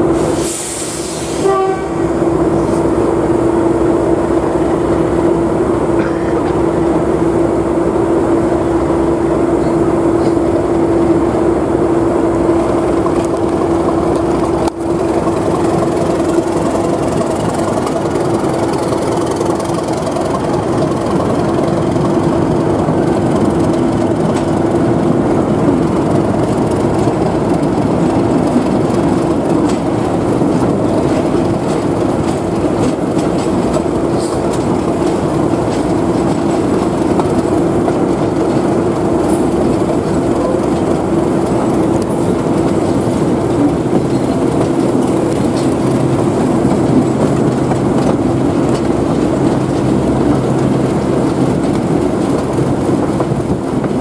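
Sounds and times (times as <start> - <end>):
diesel locomotive engine under load: 0.0 - 54.0
train wheels clicking over rail joints: 0.0 - 54.0.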